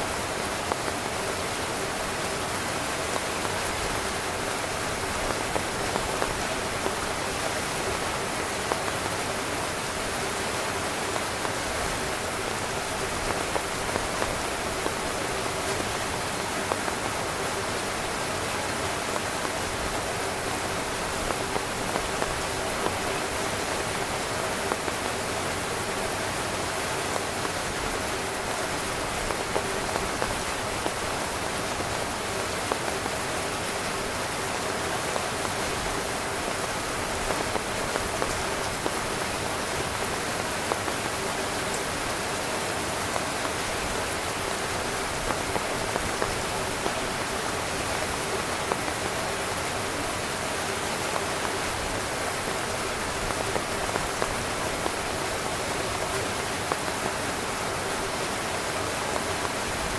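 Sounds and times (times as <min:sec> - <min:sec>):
heavy rain on tent fabric: 0:00.0 - 0:59.9.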